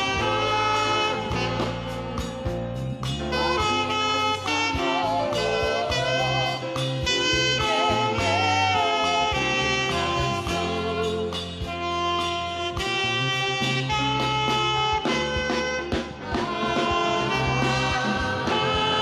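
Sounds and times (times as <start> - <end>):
backing chords bass and percussion: 0.0 - 19.0
saxophone melody with vibrato: 0.0 - 19.0.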